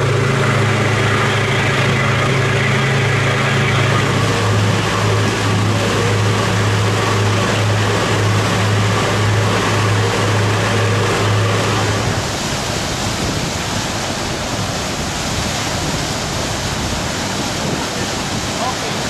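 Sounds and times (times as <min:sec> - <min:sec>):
low hum: 0:00.0 - 0:17.4
river water rushing along hull: 0:00.0 - 0:19.0
wind: 0:00.0 - 0:19.0.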